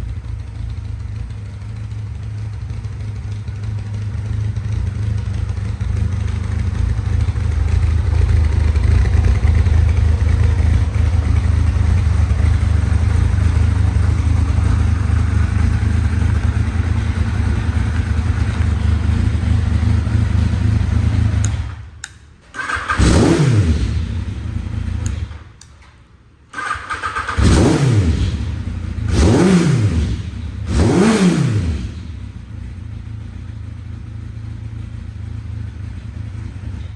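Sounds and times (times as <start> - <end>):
motorcycle engine idling and revving: 0.0 - 36.9.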